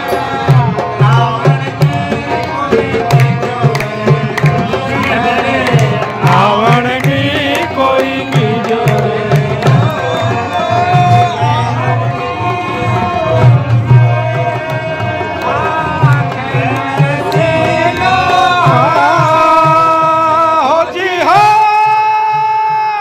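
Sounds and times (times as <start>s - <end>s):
hand drum: 0.0s - 20.0s
men singing devotional song: 0.0s - 23.0s.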